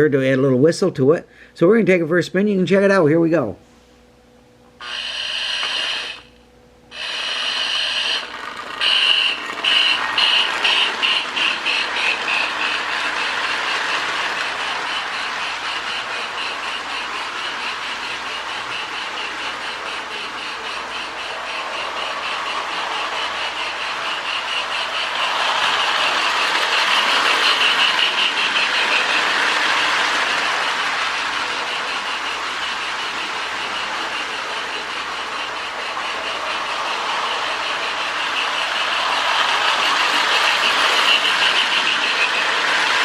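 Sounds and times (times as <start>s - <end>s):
rhythmic steam chuff from speaker: 4.8s - 43.0s
toy train motor and wheels: 4.8s - 43.0s.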